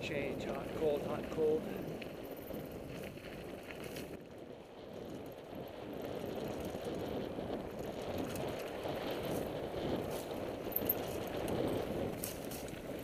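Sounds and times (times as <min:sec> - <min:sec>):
bike tyres rumbling on dirt: 0:00.0 - 0:13.0
wind on microphone: 0:00.0 - 0:13.0.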